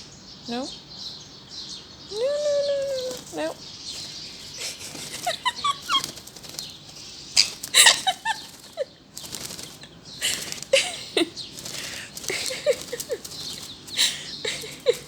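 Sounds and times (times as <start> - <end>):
birds chirping: 0.0 - 15.0
bird wings flapping: 2.6 - 15.0.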